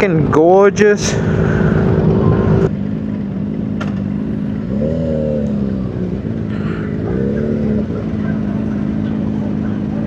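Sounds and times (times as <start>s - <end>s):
motorcycle engine revving: 1.0s - 10.0s.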